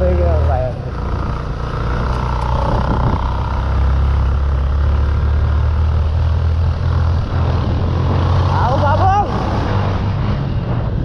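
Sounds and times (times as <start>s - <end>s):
motorcycle engine running: 0.0s - 10.8s
wind and road noise: 0.0s - 11.0s.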